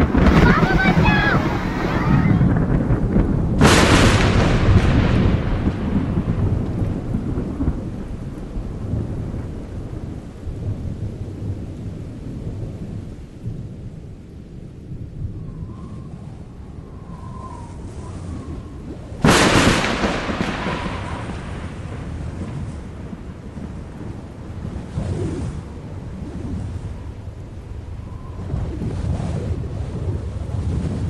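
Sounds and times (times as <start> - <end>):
steady rain: 0.0 - 31.0
thunder crack and rumble: 0.0 - 31.0.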